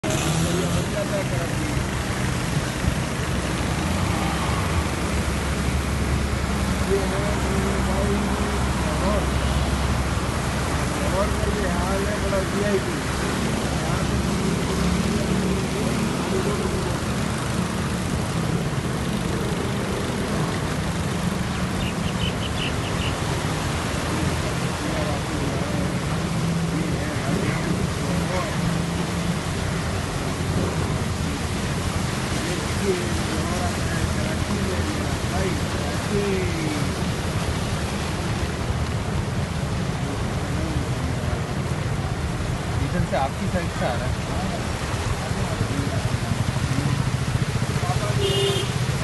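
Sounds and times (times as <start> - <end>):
tyres pushing through floodwater: 0.0 - 49.0.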